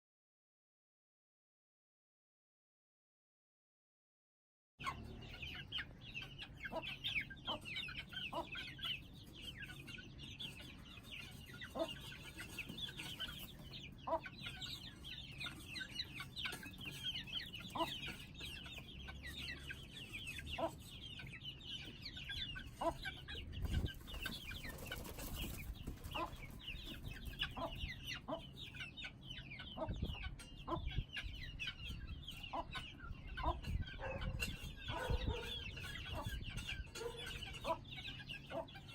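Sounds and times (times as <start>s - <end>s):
chickens clucking: 4.8s - 38.9s
chicks peeping: 4.8s - 38.9s.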